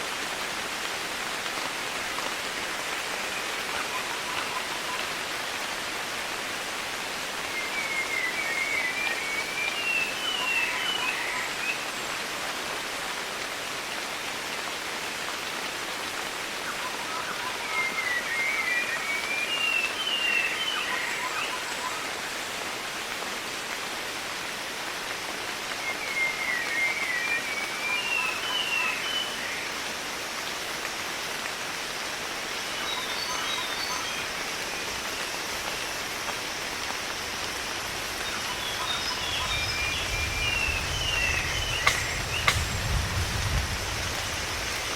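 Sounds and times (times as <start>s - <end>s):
rain-like hiss: 0.0s - 44.9s.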